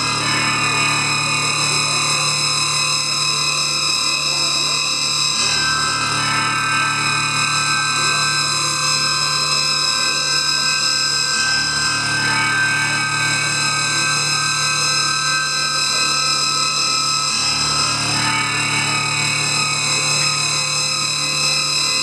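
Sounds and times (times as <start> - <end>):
distorted electric guitar drone: 0.0 - 22.0.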